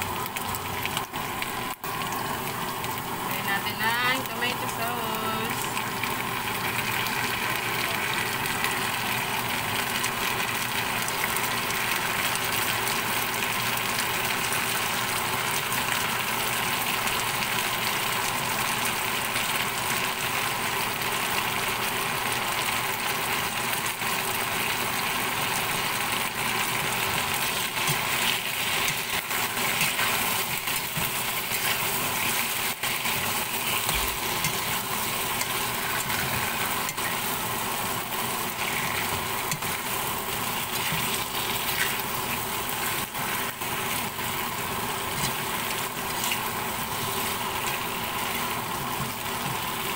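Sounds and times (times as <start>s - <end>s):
vegetables frying in oil: 0.0s - 49.9s.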